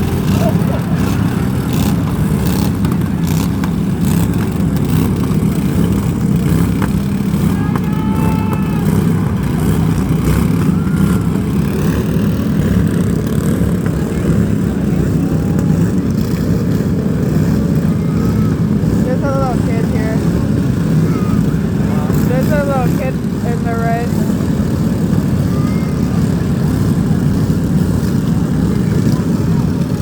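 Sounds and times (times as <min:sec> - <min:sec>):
racing vehicle engines: 0:00.0 - 0:30.0.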